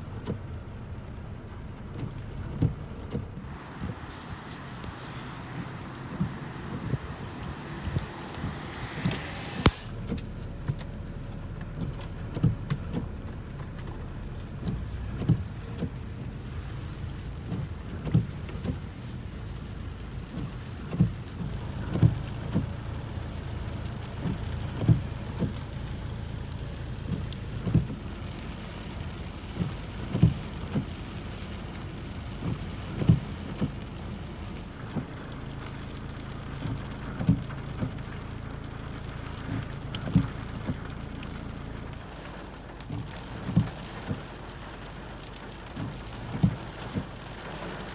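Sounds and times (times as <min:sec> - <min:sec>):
heavy rain on a car: 0:00.0 - 0:47.9
raindrops thudding on roof and glass: 0:00.0 - 0:47.9.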